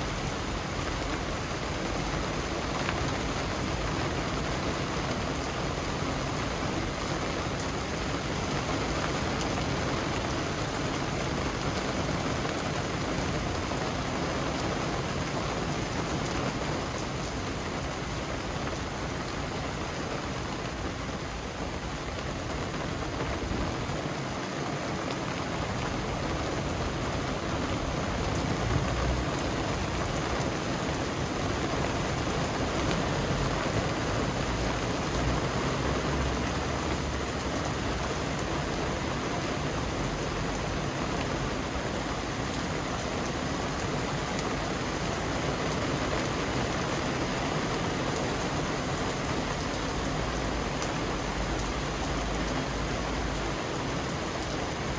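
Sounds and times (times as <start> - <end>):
heavy rain on wet pavement: 0.0 - 54.9.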